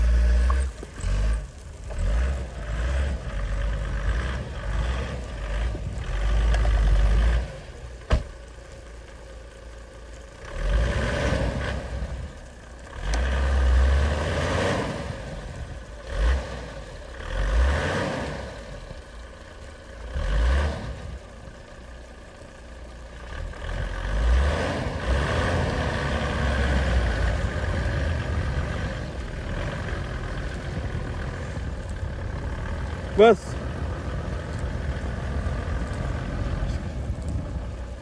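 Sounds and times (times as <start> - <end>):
diesel engine revving: 0.0 - 38.0.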